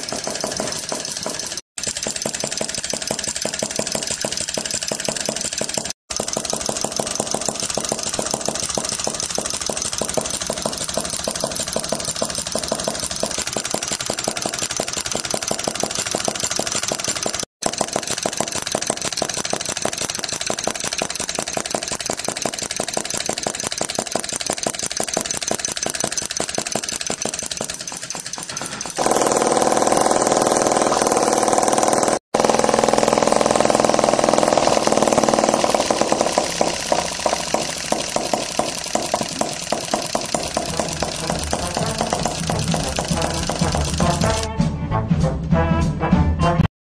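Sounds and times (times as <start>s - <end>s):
gas engine running: 0.0s - 44.5s.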